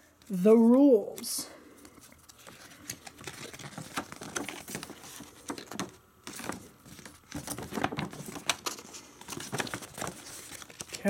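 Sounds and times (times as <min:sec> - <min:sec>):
paper crinkling: 0:01.2 - 0:11.0.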